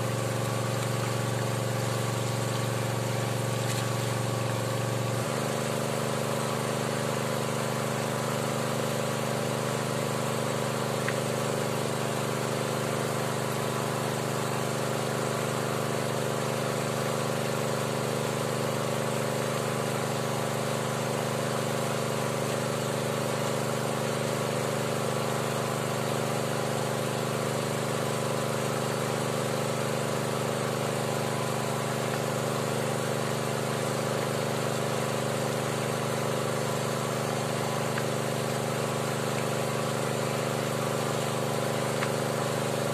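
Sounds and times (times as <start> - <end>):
engine-driven water pump running: 0.0 - 42.9.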